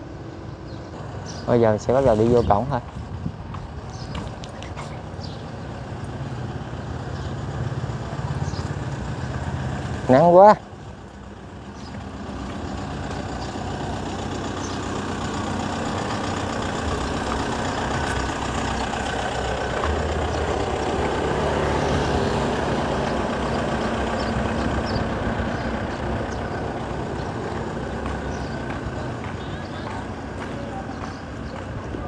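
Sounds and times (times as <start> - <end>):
engine humming: 0.0 - 32.0
street traffic: 0.0 - 32.0.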